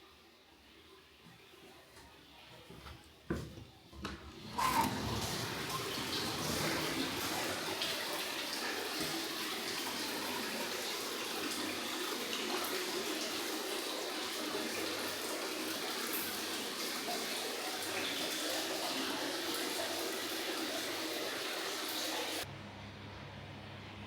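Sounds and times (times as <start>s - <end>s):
water running into a bath: 1.9s - 22.5s.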